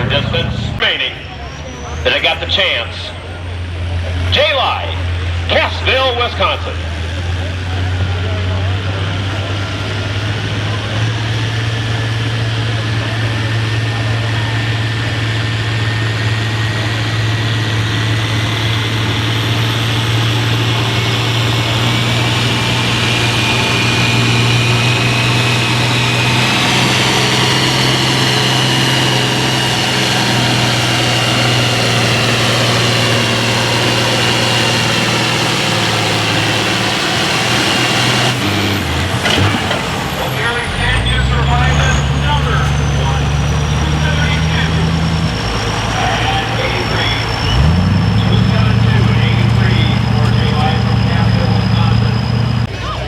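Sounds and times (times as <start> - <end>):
tractor engine under load: 0.0 - 53.0.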